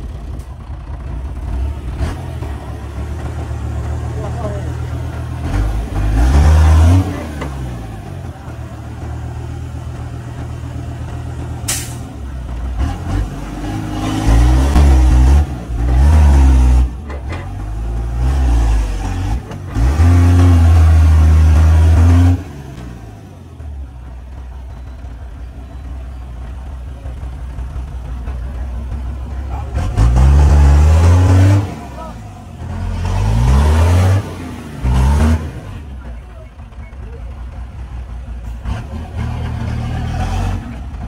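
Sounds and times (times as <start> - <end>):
diesel engine revving hard: 1.0 - 23.7, 27.7 - 36.7, 37.4 - 41.0.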